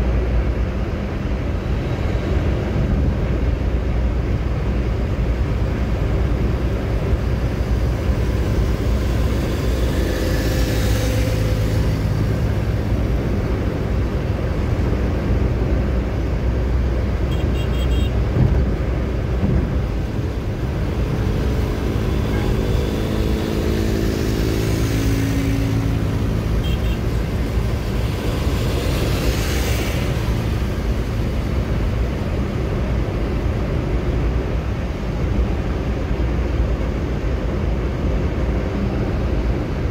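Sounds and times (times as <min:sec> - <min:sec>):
car interior road rumble: 0:02.2 - 0:39.9.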